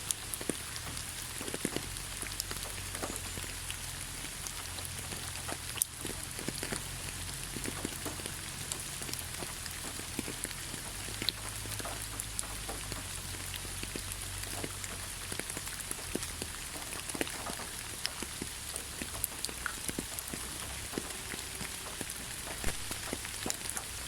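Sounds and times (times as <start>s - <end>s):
rain dripping on leaves: 0.0s - 24.0s.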